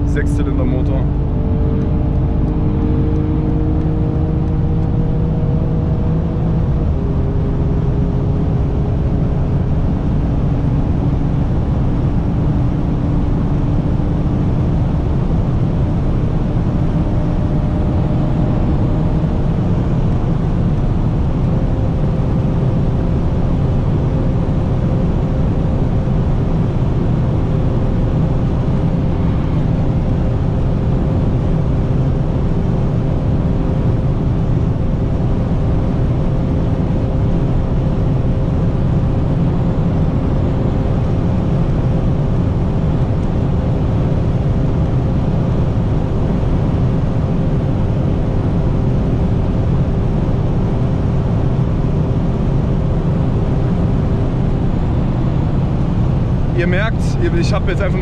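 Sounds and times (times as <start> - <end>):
faint engine hum: 0.0 - 58.0
road and wind drone: 0.0 - 58.0.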